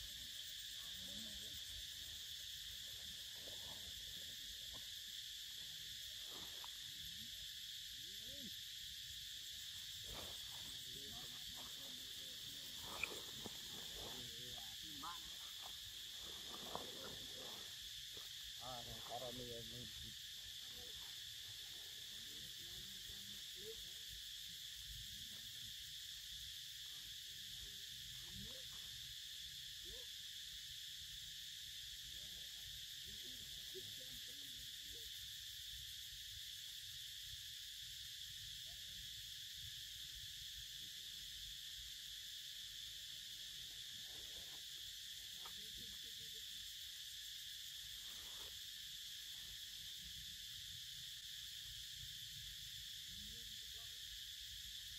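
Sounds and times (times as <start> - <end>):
high-pitched insect drone: 0.0 - 54.9.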